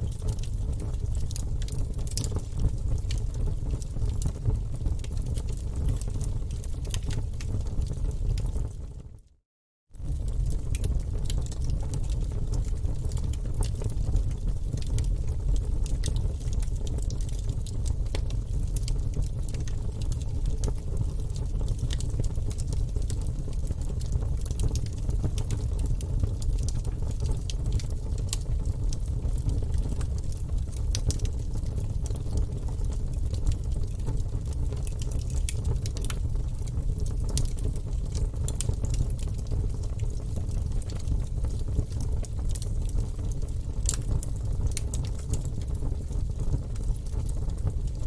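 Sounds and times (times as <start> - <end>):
fire flames rumbling: 0.0 - 9.0, 10.0 - 48.0
logs crackling and popping: 0.1 - 8.6, 10.0 - 45.8, 46.6 - 47.7.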